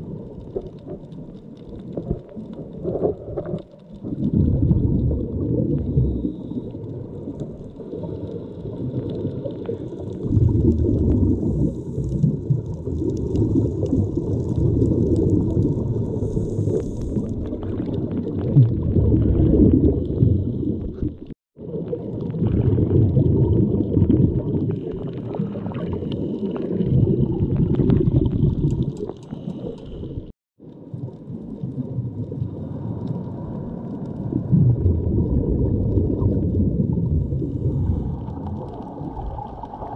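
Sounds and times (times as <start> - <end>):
underwater rushing and gurgling: 0.0 - 39.9.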